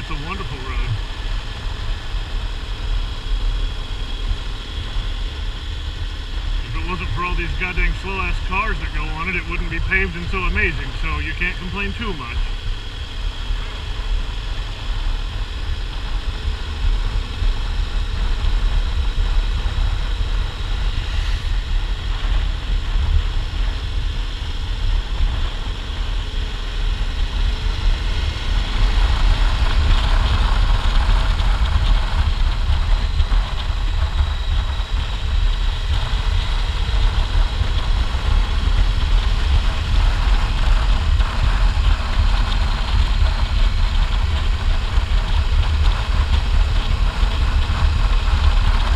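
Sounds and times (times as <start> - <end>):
motorcycle engine running: 0.0 - 48.9
wind rumble on microphone: 0.0 - 48.9.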